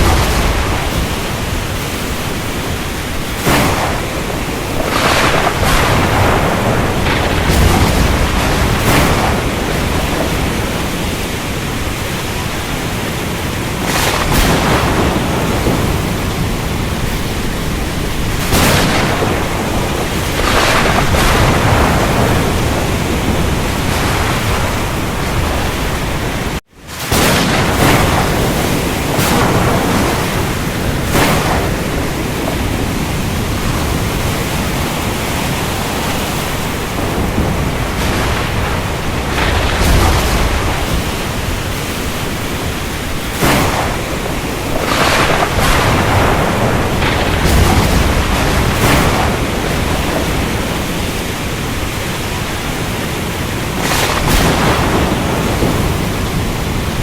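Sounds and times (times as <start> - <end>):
low rumbling thunder: 0.0 - 57.0
surf rushing: 0.0 - 57.0
waves breaking: 0.0 - 57.0.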